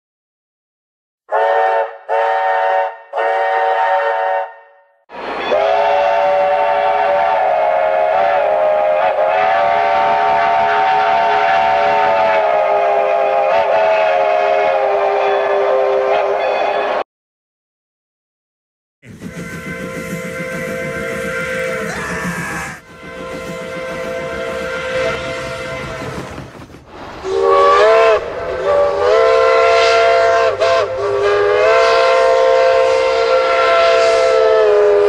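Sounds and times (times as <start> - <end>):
chime steam whistle blasts: 1.3 - 17.0, 19.0 - 26.3, 27.2 - 35.0.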